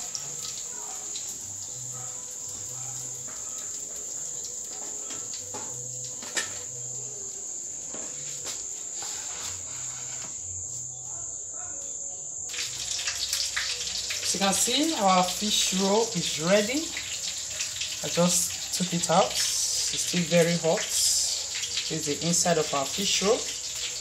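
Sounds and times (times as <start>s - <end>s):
cricket trill: 0.0s - 24.0s.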